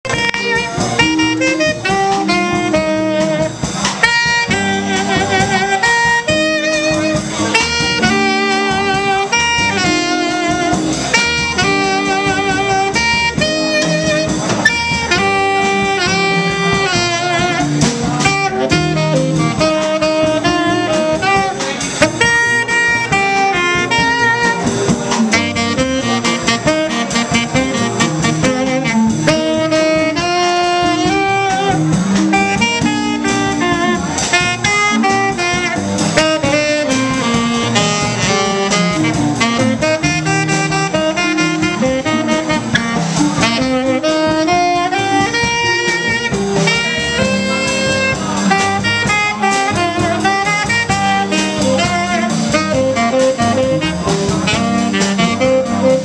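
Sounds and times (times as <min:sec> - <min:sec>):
tenor saxophone jazz improvisation: 0:00.0 - 0:56.0.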